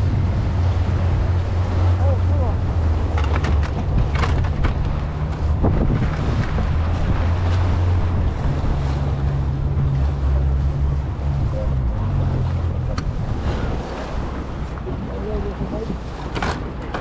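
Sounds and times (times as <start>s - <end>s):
outboard motor droning: 0.0s - 17.0s
water washing against boat: 0.0s - 17.0s
wind buffeting microphone: 0.0s - 17.0s.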